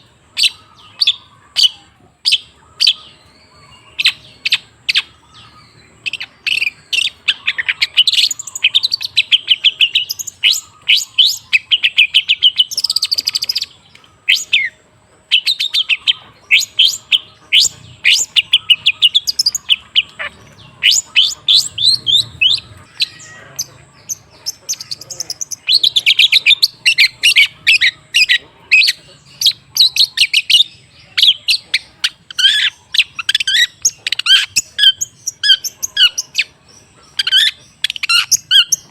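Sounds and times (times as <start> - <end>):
bird singing sharp chips and whistles: 0.0 - 38.9.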